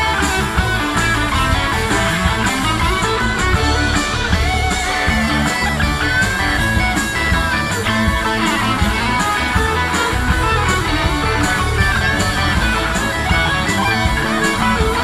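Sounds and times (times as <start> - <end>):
bass guitar: 0.0 - 15.0
drums with cymbal hits: 0.0 - 15.0
electric guitar lead: 0.0 - 15.0.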